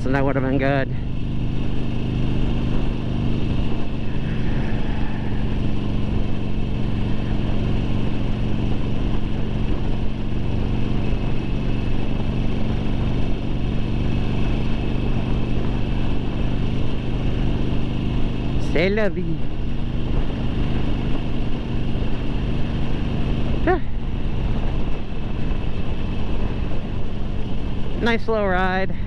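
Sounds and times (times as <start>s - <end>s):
motorcycle engine cruising: 0.0s - 29.0s
road noise: 0.0s - 29.0s.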